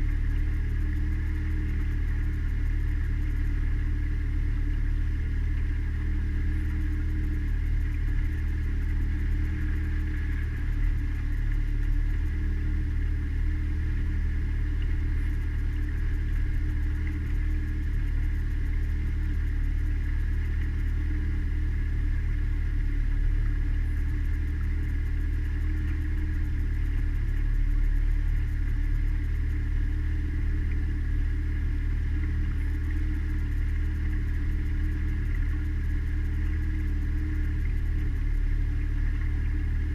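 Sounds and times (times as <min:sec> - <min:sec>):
outboard motor droning: 0:00.0 - 0:39.9.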